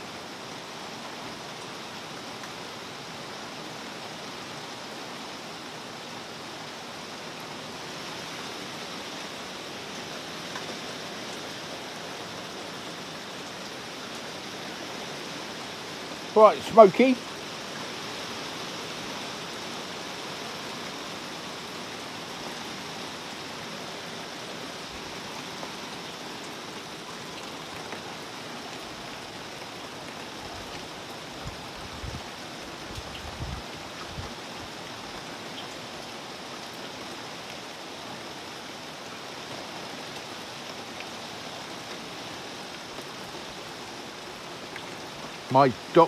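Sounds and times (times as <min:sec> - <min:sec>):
rain falling on a pond: 0:00.0 - 0:46.0.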